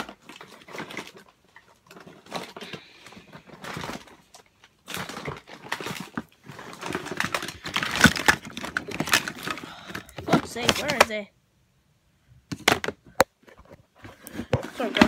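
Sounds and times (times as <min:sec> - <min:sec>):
rummaging through cables in drawer: 0:00.0 - 0:11.2, 0:12.6 - 0:15.0.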